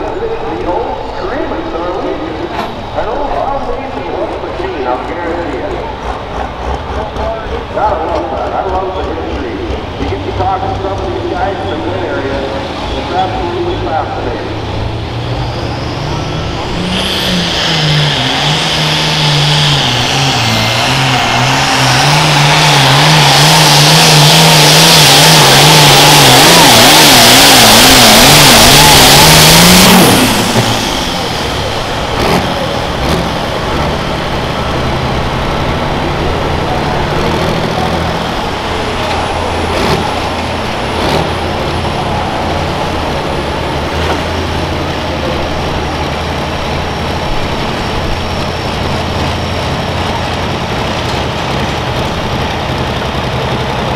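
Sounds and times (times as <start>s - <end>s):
engine running steadily: 0.0s - 53.9s
tractor diesel engine at full throttle: 0.0s - 53.9s.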